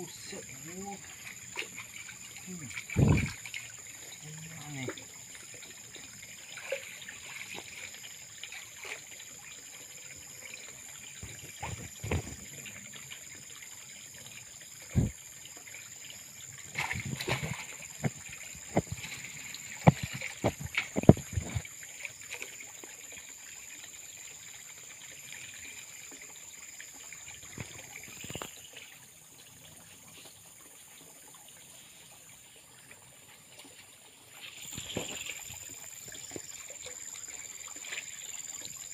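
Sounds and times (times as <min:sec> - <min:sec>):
water sloshing and splashing: 0:00.0 - 0:38.9.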